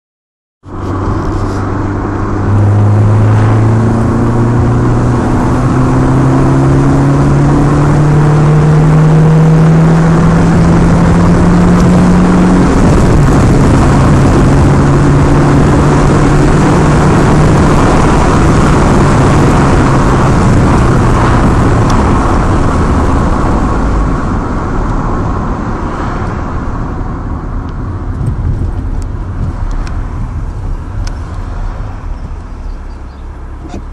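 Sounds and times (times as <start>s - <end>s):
loud vehicle engine revving: 0.7s - 33.9s.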